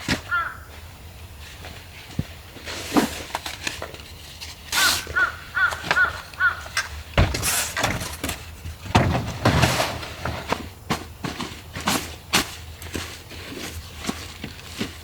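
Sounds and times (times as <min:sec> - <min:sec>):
rustling: 0:01.4 - 0:15.0.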